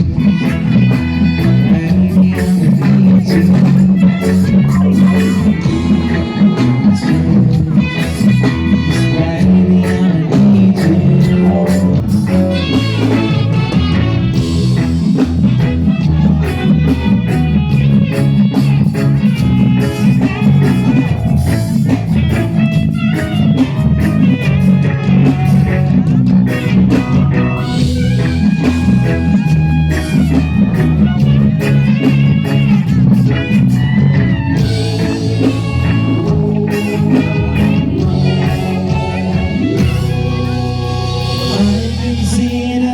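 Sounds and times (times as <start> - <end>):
drum kit beat: 0.0 - 42.9
electric guitar: 0.0 - 42.9
live band playing: 0.0 - 42.9.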